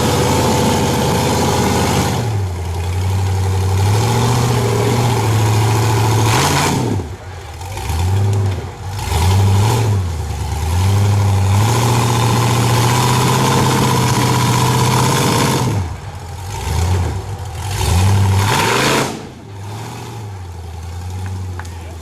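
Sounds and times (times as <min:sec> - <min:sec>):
buggy engine revving hard: 0:00.0 - 0:22.0.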